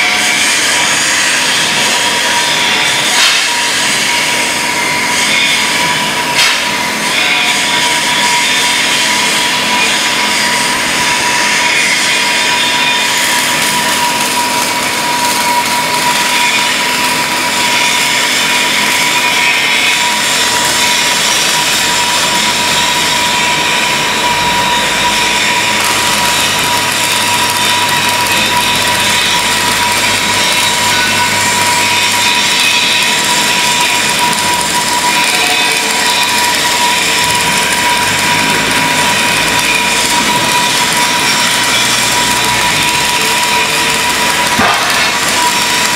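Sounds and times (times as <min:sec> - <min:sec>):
band saw cutting metal: 0:00.0 - 0:45.9.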